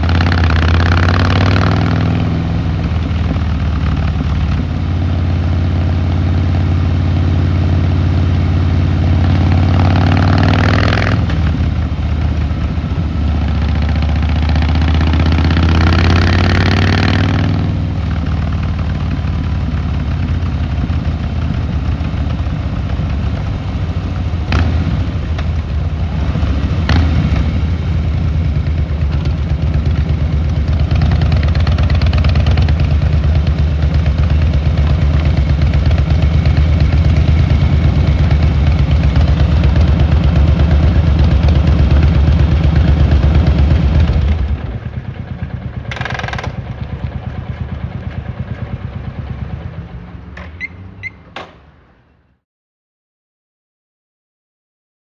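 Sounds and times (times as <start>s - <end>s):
motorcycle engine revving: 0.0s - 51.3s.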